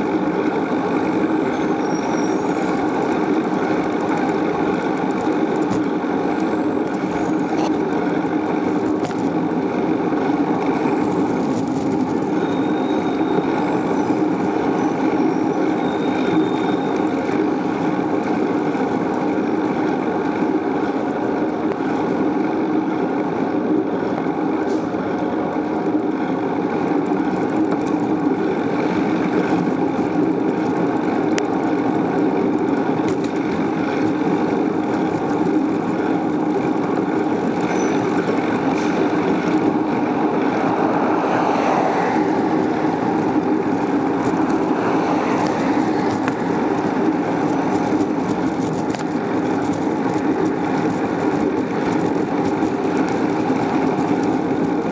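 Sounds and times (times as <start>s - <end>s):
bicycle ride noise: 0.0s - 54.9s
traffic: 0.0s - 54.9s.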